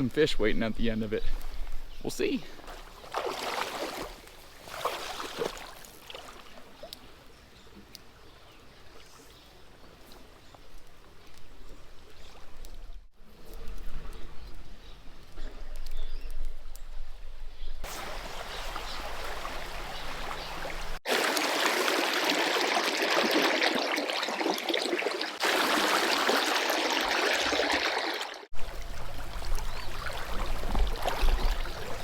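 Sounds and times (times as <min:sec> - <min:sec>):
stream water running: 0:01.2 - 0:13.1, 0:17.8 - 0:32.0.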